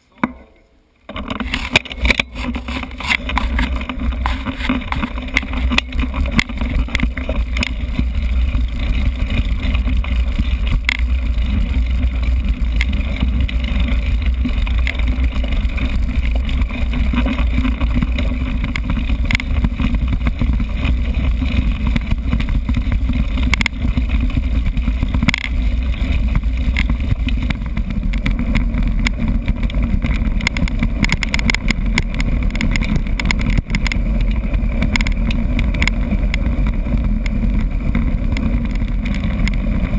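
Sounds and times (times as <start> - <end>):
bike rattles and knocks: 0.0 - 39.9
wind and tyres on dirt: 0.0 - 39.9.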